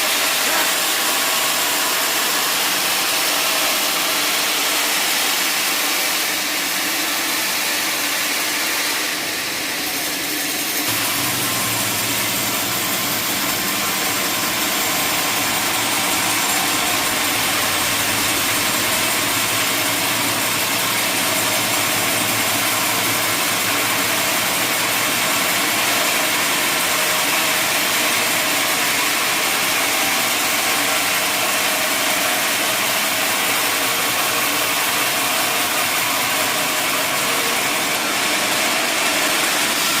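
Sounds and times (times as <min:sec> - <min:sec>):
sawmill machinery running: 0:00.0 - 0:40.0.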